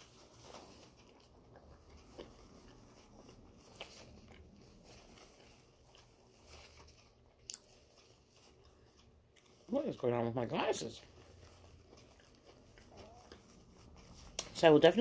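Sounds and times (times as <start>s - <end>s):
faint chewing: 0.0s - 15.0s
tissue wiping eyeglasses: 1.9s - 15.0s.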